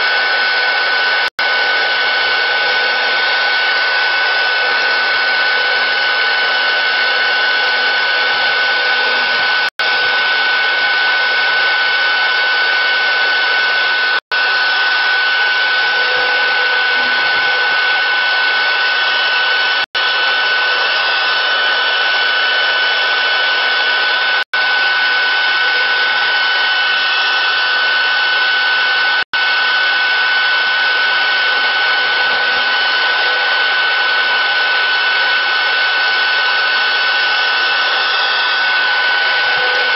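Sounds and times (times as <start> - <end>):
router bit milling wood: 0.0 - 39.9
router spindle whining: 0.0 - 39.9.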